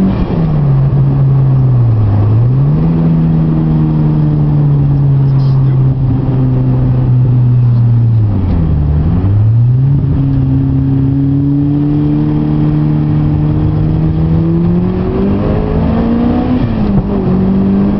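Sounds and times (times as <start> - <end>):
car engine accelerating: 0.0 - 17.9.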